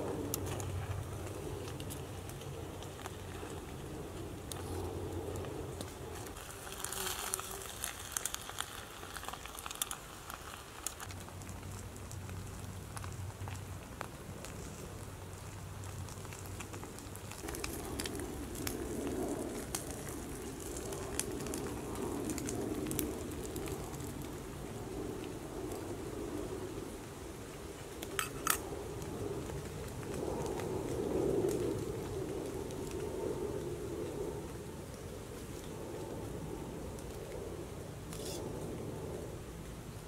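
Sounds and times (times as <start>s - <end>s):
alcohol stove burning: 0.0s - 40.0s.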